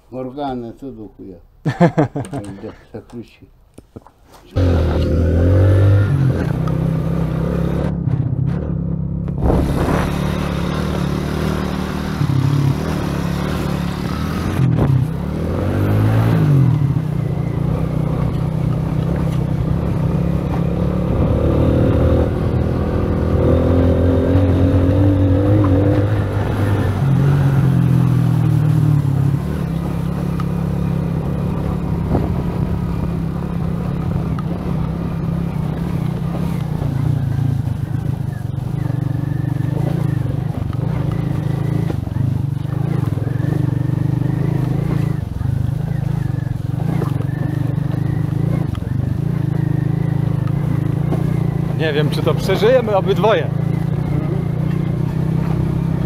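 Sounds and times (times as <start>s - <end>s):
motorcycle engine revving: 4.6s - 56.0s.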